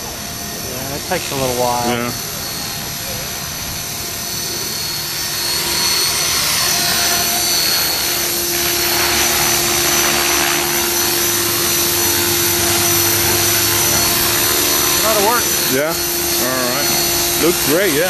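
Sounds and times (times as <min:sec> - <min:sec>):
helicopter rotor blades rushing: 0:00.0 - 0:18.0
high drivetrain whine: 0:00.0 - 0:18.0.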